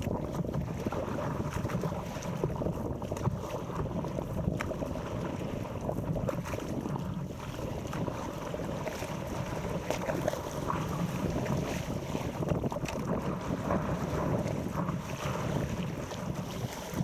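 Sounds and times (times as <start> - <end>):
water lapping against paddleboard: 0.0 - 17.0
wind buffeting microphone: 0.0 - 17.0.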